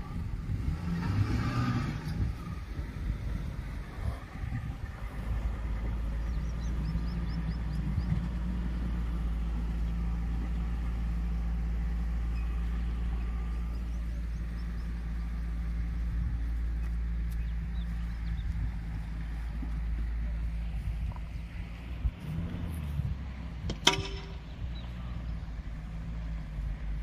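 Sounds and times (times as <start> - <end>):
engine idling: 2.2 - 22.3, 23.4 - 27.0.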